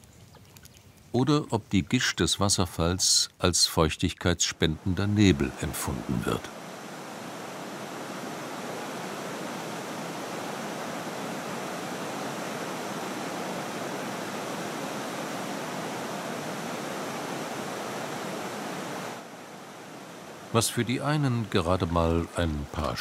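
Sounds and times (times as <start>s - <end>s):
waterfall rushing: 4.4s - 23.0s.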